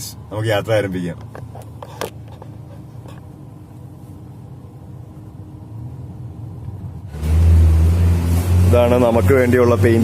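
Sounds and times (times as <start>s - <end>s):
vehicle rumble: 0.0s - 10.0s.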